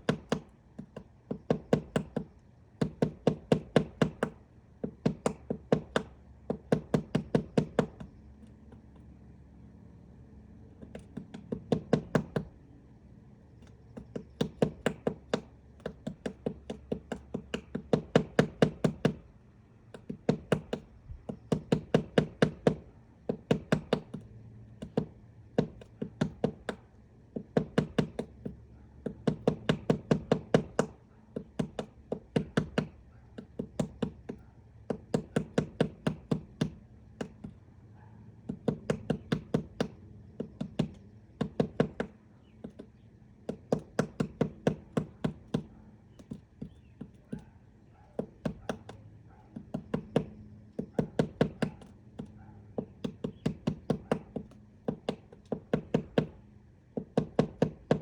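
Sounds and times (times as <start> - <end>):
woodpecker pecking wood: 0.0 - 9.4, 10.5 - 58.0.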